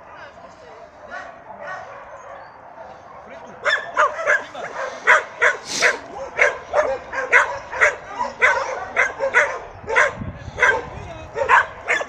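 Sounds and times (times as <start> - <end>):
dog barking: 1.0 - 12.0.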